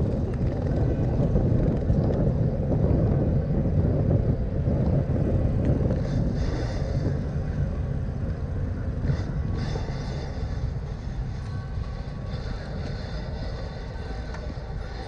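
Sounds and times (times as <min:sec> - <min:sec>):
road noise and traffic: 0:00.0 - 0:15.0.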